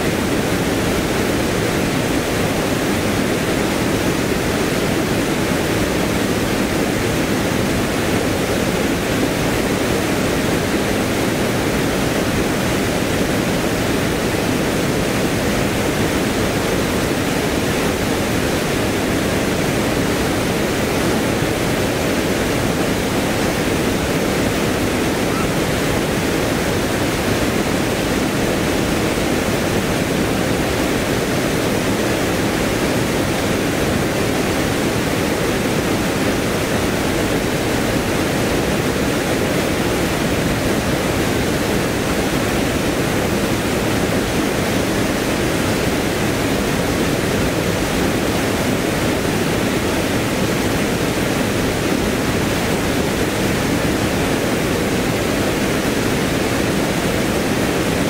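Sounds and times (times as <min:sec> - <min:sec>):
water rushing over weir: 0:00.0 - 0:58.0.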